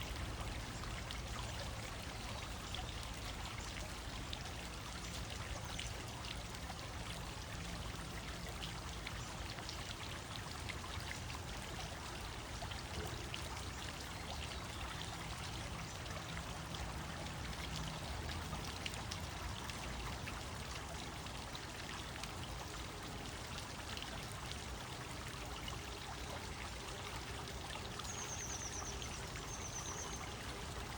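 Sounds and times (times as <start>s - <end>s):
water fountain splashing: 0.0s - 30.9s.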